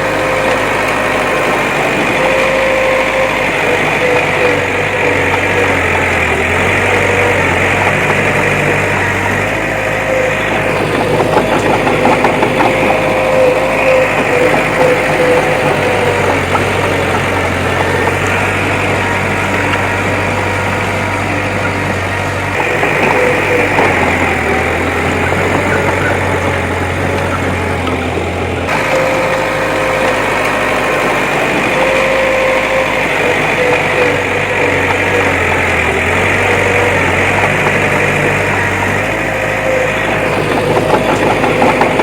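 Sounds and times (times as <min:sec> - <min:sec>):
diesel engine running: 0:00.0 - 0:42.0
high whine: 0:00.0 - 0:42.0.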